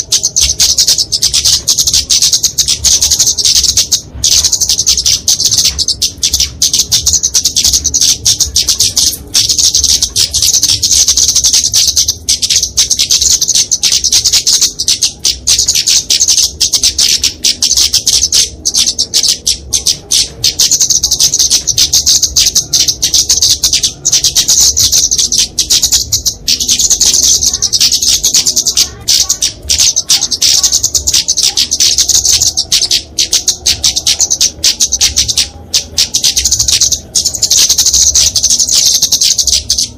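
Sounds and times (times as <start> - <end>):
bird high sharp chips: 0.0 - 39.9.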